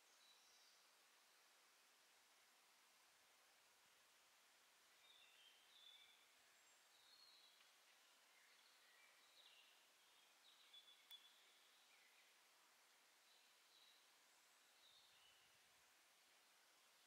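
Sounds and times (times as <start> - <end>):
faint woodland birdsong: 0.0 - 17.0
soft steady hiss: 0.0 - 17.0.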